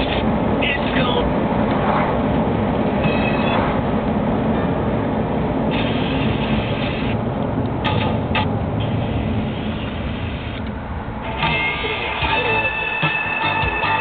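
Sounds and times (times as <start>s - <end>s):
road and engine noise in car: 0.0s - 14.0s.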